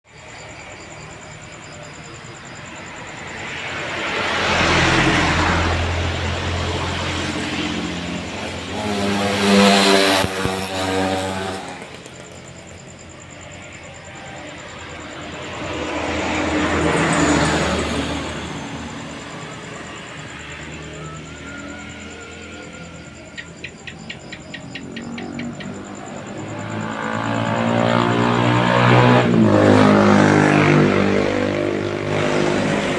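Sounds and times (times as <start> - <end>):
vehicle engine: 0.1 - 32.9
vehicle passing: 0.2 - 32.9.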